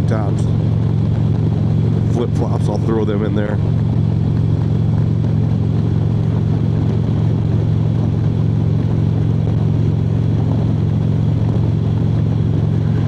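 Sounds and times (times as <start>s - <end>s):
motorcycle cruising: 0.0s - 13.0s.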